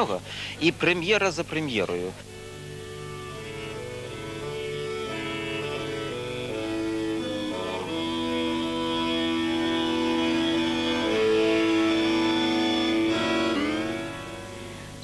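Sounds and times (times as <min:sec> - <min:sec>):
accordion playing held chords: 0:02.2 - 0:15.0.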